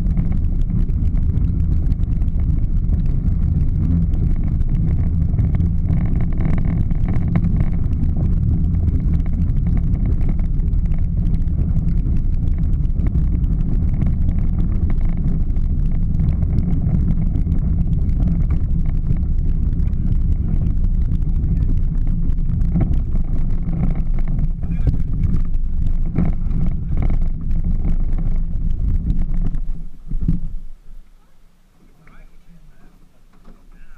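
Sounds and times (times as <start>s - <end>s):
toy car rumbling on asphalt: 0.0s - 33.9s.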